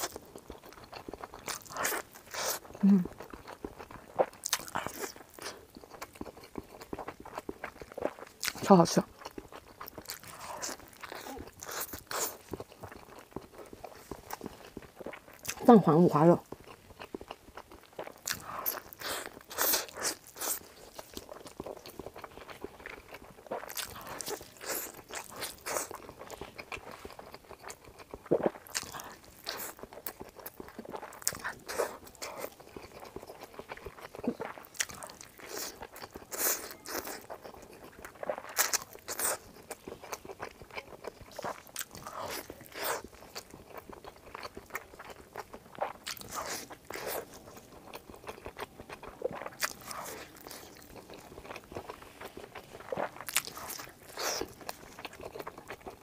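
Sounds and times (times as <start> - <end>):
biting and chewing food: 0.0 - 15.7, 16.4 - 56.0.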